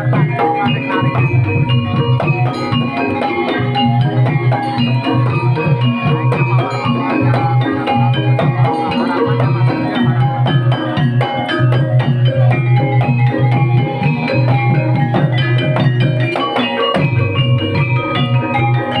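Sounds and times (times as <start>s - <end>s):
gamelan-style percussion music: 0.0s - 19.0s.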